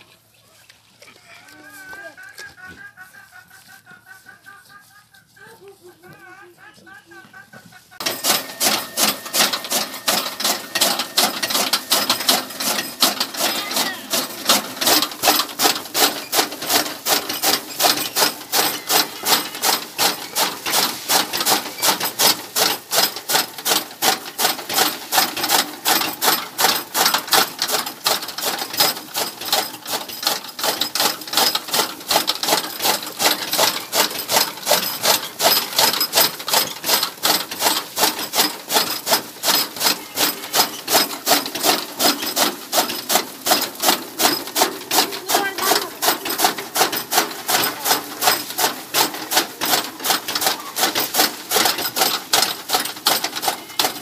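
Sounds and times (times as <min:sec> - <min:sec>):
chaff cutter chopping grass: 0:08.0 - 0:54.0.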